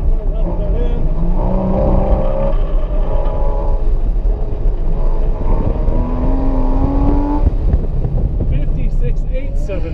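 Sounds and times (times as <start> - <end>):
car engine accelerating: 0.0 - 9.9
road and tyre noise: 0.0 - 9.9.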